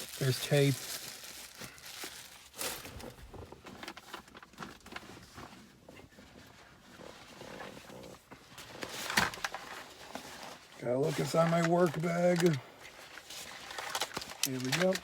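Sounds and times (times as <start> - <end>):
parcel packaging rustling and scraping: 0.0 - 15.0.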